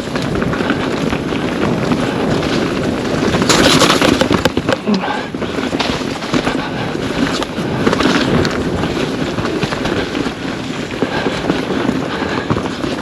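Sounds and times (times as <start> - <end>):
bike knocks and rattles: 0.0 - 13.0
bike tyre rumble over dirt: 0.0 - 13.0.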